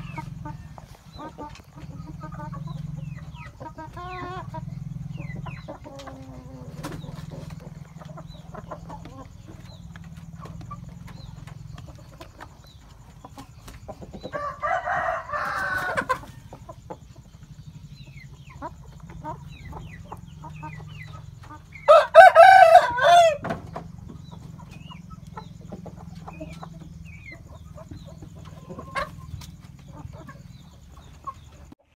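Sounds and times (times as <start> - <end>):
faint clucks: 0.0 - 14.4, 15.8 - 21.9, 23.4 - 32.0
roosters crowing: 0.0 - 31.6
steady low hum: 0.0 - 31.8.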